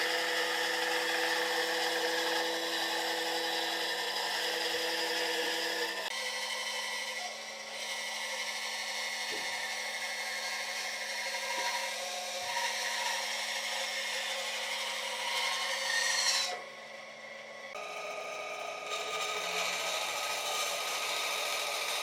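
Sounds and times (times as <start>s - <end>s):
power tool humming: 0.0s - 22.0s.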